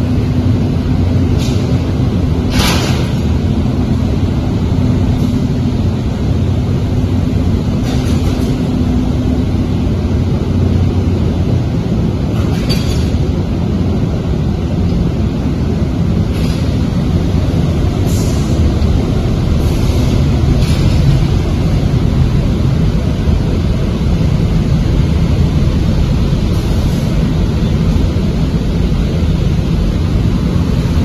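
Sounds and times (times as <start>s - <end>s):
furnace line low rumble: 0.0s - 31.0s.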